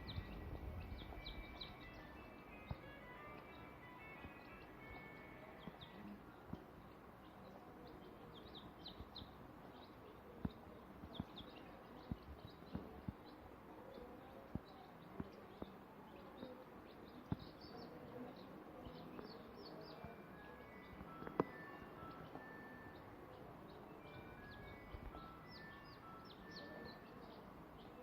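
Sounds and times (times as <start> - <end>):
chicks peeping: 0.0 - 28.0.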